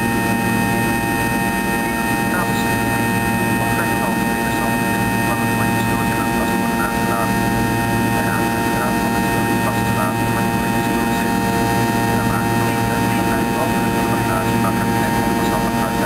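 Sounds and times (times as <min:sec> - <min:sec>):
jet engine cabin drone: 0:00.0 - 0:16.0.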